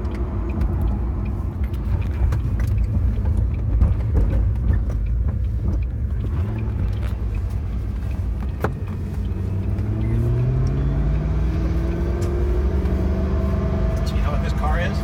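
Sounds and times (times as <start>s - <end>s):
car engine rumble from cabin: 0.0s - 15.0s
road noise: 0.0s - 15.0s.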